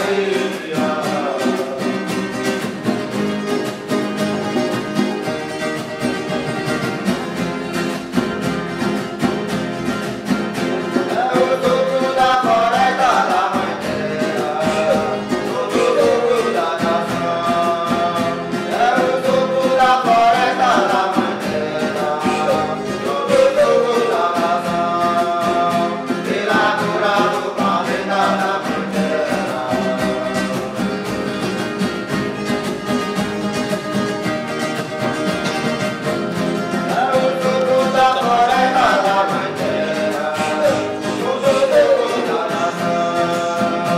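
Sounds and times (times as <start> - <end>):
guitars playing: 0.0 - 43.9
voices singing: 0.0 - 43.9.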